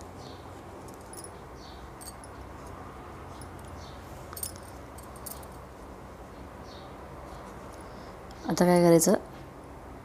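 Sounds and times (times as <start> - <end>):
low steady background hum: 0.0 - 10.0.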